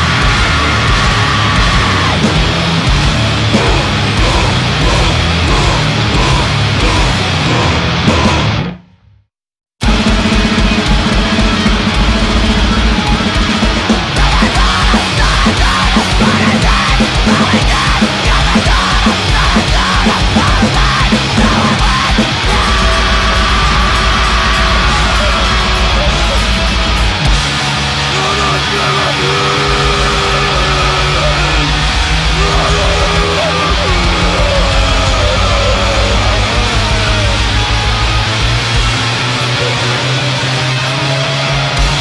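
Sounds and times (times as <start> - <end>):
loud distorted noise rock music: 0.0 - 8.9, 9.8 - 42.0.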